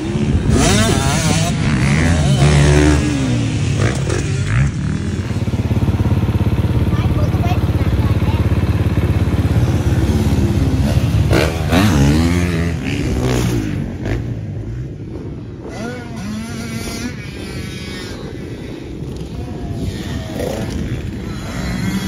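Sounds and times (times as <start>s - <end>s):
dirt bike engine revving: 0.0s - 22.0s
distant dirt bikes riding: 0.0s - 22.0s.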